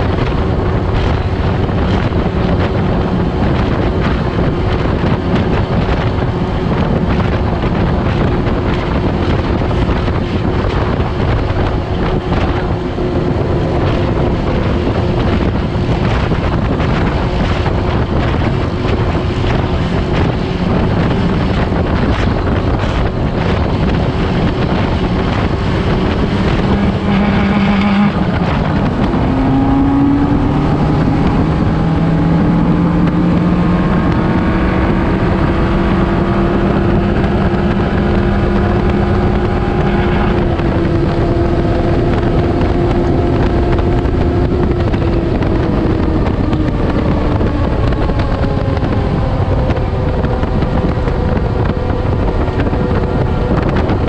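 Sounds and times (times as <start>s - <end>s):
dune buggy engine running: 0.0s - 54.0s
wind rush on microphone: 0.0s - 54.0s.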